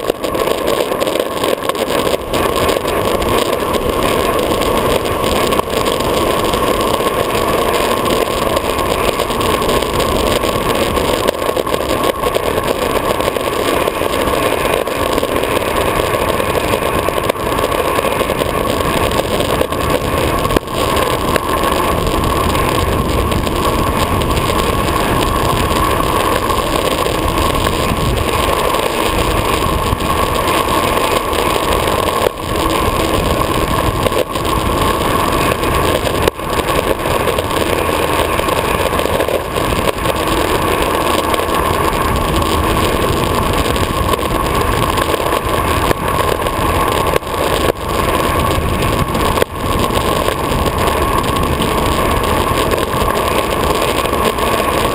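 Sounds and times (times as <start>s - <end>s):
longboard wheels rolling on asphalt: 0.0s - 54.9s
wind on microphone: 0.0s - 54.9s.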